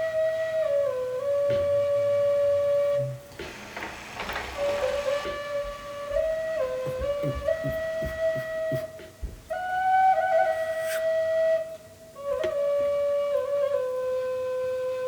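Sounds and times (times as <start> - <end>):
drone flute melody: 0.0 - 15.0.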